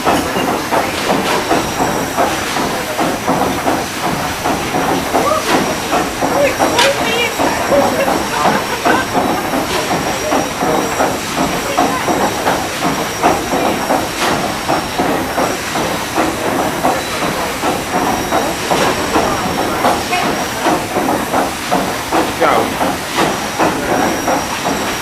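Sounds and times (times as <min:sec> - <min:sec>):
rhythmic steam engine beat: 0:00.0 - 0:25.0.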